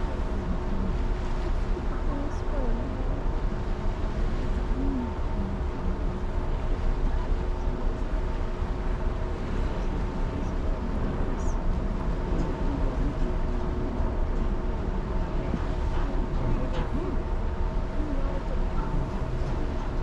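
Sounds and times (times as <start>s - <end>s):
ship machinery hum: 0.0s - 20.0s.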